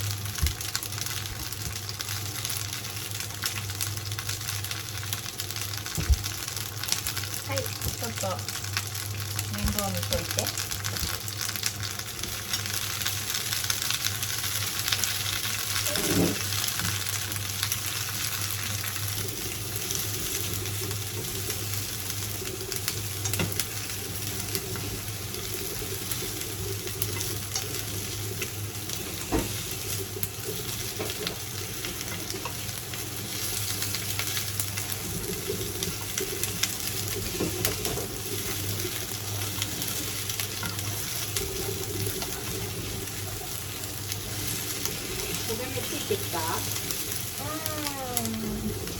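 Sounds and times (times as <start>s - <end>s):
peppers sizzling in a frying pan: 0.0s - 48.9s.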